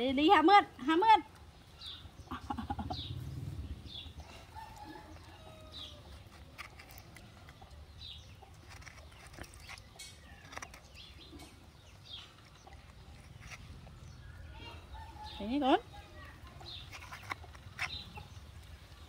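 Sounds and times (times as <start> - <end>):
bird chirping: 1.4 - 19.0.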